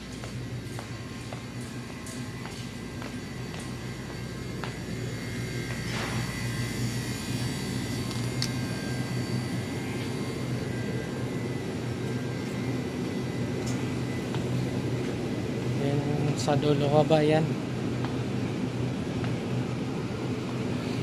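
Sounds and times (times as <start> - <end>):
refrigeration hum: 0.0 - 21.0.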